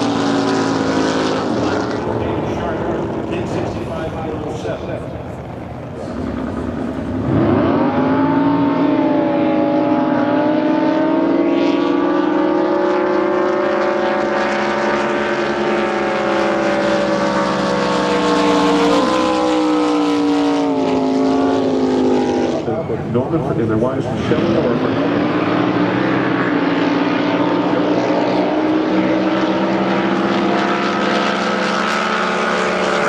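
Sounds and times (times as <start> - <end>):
boat engine at high revs: 0.0 - 33.0.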